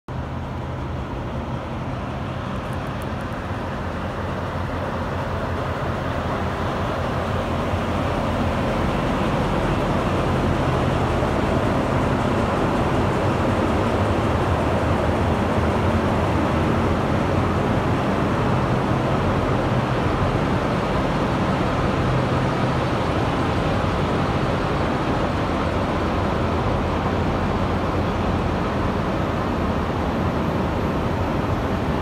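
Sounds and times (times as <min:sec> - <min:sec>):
diesel locomotives idling: 0:00.1 - 0:32.0.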